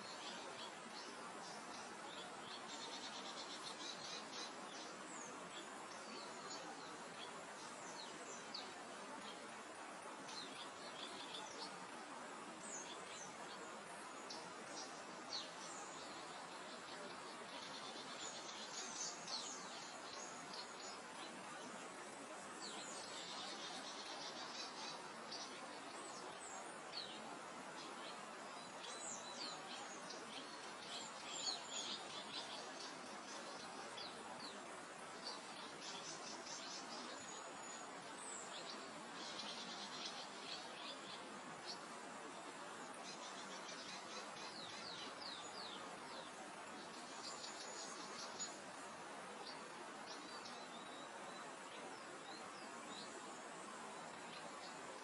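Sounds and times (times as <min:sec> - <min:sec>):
small birds chirping: 0:00.0 - 0:55.0
soft wind hiss: 0:00.0 - 0:55.0.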